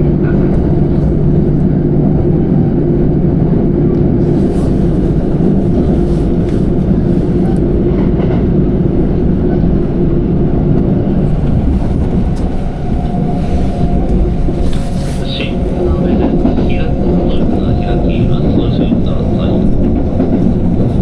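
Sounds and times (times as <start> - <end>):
higher hum: 0.0 - 21.0
train wheels rumbling: 0.0 - 21.0.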